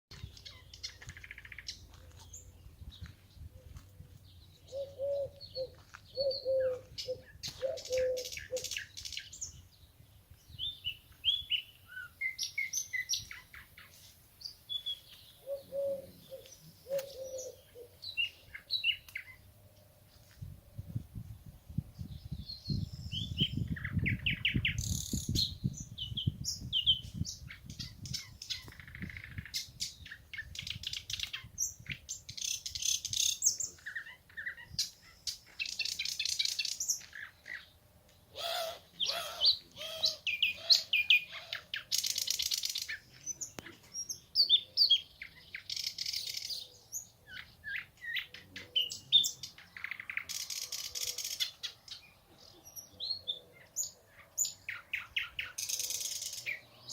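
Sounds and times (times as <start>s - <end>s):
nightingale singing: 4.4s - 19.5s, 21.7s - 37.7s, 38.3s - 56.9s.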